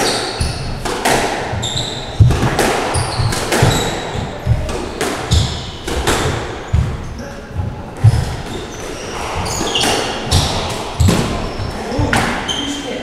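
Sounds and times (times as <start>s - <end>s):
squash ball cracking: 0.0s - 7.0s, 8.0s - 12.5s
shoes squeaking: 0.0s - 13.0s
footsteps on wooden floor: 1.5s - 12.4s.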